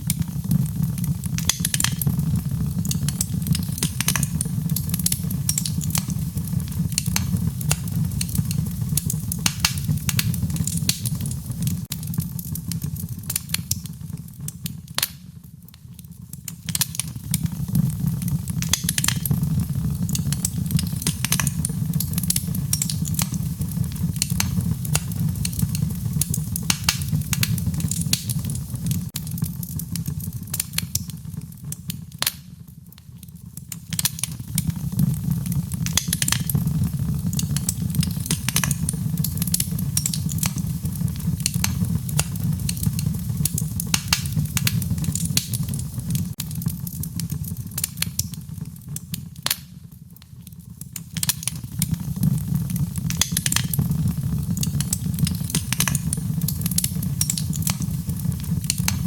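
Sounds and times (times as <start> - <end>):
burning wood crackling and popping: 0.0 - 59.0
low rumble of flames: 0.0 - 59.0.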